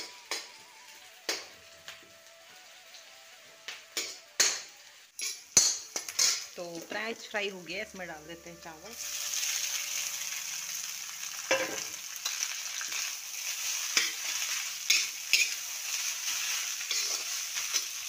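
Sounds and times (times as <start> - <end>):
rice sizzling in hot oil: 0.0 - 18.0.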